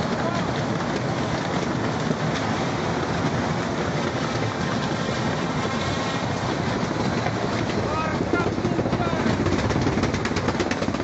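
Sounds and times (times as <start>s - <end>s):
heavy driving rain: 0.0s - 11.0s
strong wind: 0.0s - 11.0s.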